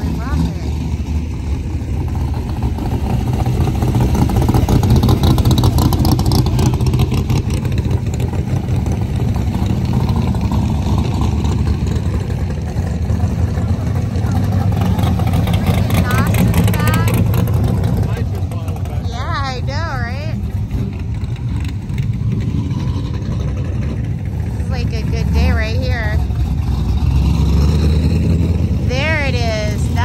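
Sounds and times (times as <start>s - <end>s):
loud car engines driving past: 0.0s - 30.0s.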